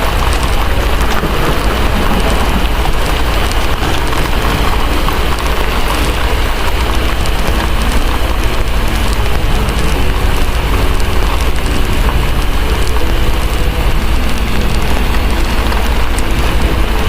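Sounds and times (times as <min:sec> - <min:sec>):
heavy rain pouring: 0:00.0 - 0:17.0
low rumble: 0:00.0 - 0:17.0.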